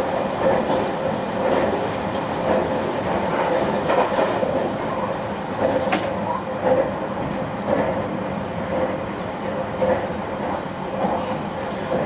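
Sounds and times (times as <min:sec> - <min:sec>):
train running rumble and hum: 0:00.0 - 0:12.0.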